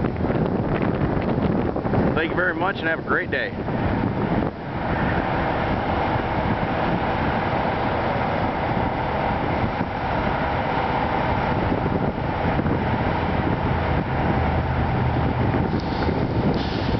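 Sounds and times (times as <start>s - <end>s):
truck diesel engine running: 0.0s - 16.9s.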